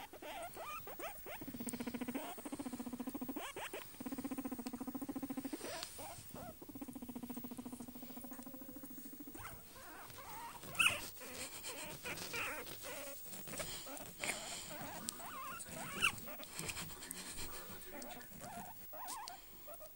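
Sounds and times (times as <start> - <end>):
guinea pig squeaking: 0.0 - 16.8, 17.9 - 19.9
rustling against a blanket: 0.0 - 19.9.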